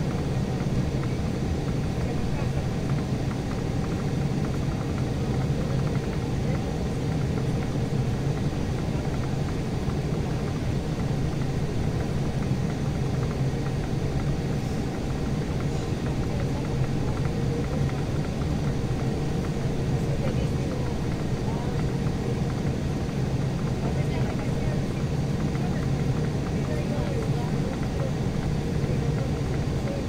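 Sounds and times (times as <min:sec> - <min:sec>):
airliner low rumble and hum: 0:00.0 - 0:30.0.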